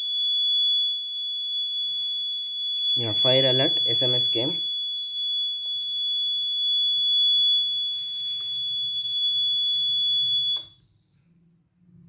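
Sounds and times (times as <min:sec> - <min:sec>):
high-pitched alarm buzzer tone: 0:00.0 - 0:10.7.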